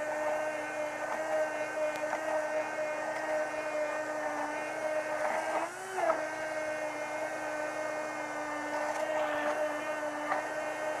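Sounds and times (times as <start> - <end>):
immersion blender motor running: 0.0 - 11.0.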